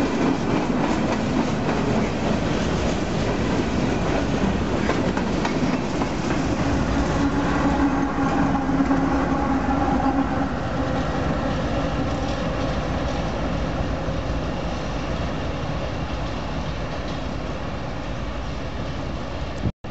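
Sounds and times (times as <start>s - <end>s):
freight train rolling past: 0.0s - 19.7s.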